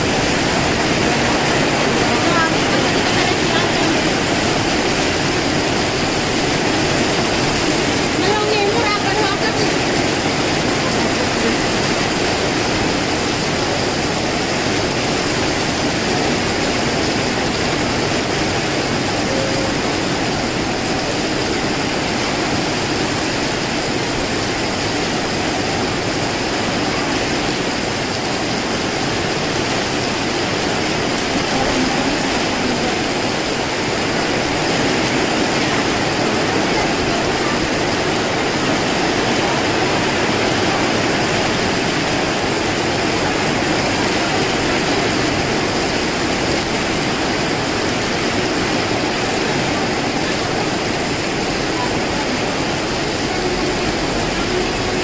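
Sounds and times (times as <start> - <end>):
heavy rain: 0.0 - 55.0
strong wind: 0.0 - 55.0.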